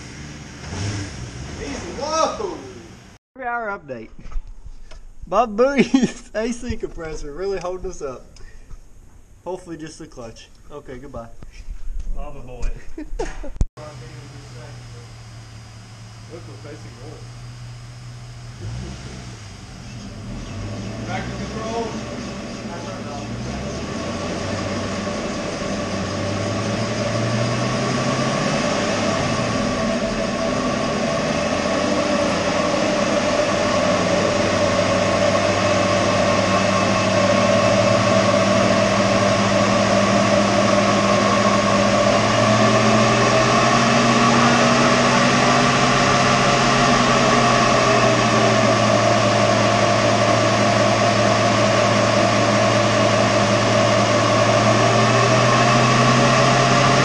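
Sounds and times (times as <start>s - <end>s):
car engine running on dyno: 0.0s - 3.2s, 13.8s - 57.0s.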